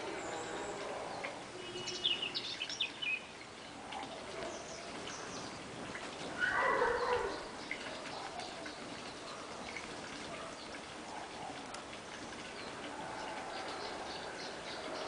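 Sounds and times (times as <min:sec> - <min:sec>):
outdoor background noise: 0:00.0 - 0:15.0
small birds chirping: 0:00.0 - 0:15.0.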